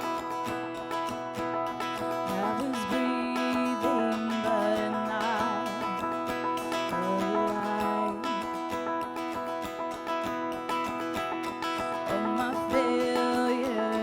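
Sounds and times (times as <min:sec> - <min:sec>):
acoustic guitar strumming: 0:00.0 - 0:14.0
wavering held melody: 0:00.0 - 0:14.0.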